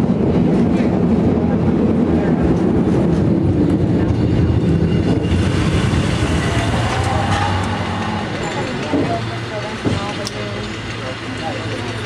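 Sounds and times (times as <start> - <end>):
cable car rumbling on rails: 0.0 - 12.0.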